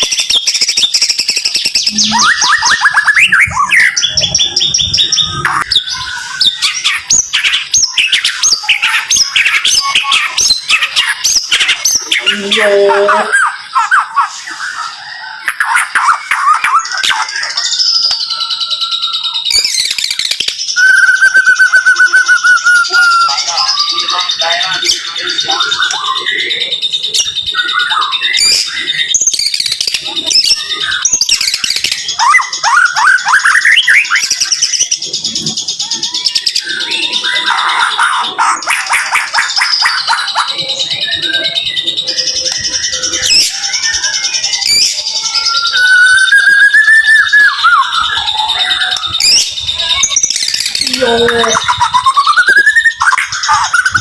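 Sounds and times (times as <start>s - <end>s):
bird singing rapid whistles: 0.0s - 54.0s.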